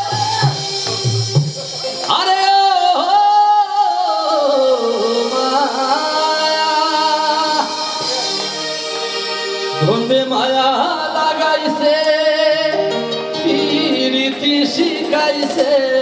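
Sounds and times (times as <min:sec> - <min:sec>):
keyboard accompaniment: 0:00.0 - 0:16.0
man singing into microphone: 0:01.9 - 0:16.0.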